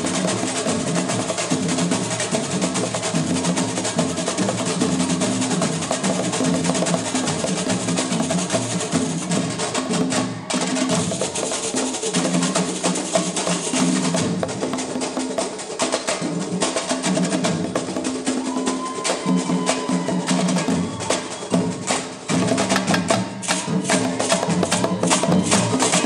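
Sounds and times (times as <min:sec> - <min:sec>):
samba hand drums: 0:00.0 - 0:26.0.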